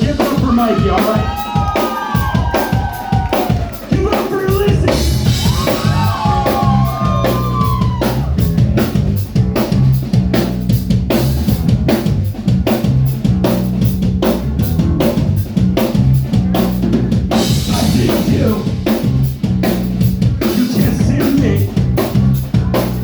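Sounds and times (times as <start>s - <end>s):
drum kit beating fast rhythm: 0.0s - 23.0s
rock band playing: 0.0s - 23.0s
low bass notes: 3.9s - 23.0s.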